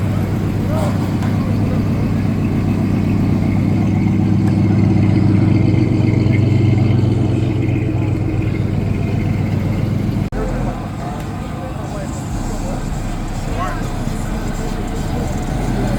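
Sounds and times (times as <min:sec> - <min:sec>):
car engine running: 0:00.0 - 0:15.9.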